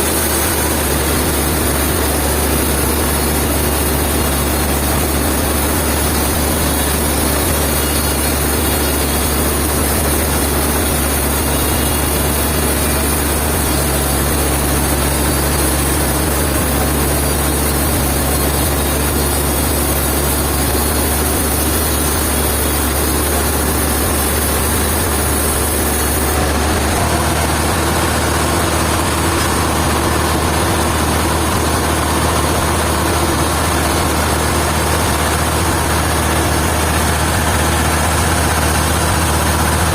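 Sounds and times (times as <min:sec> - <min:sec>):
heavy engine humming: 0:00.0 - 0:39.9.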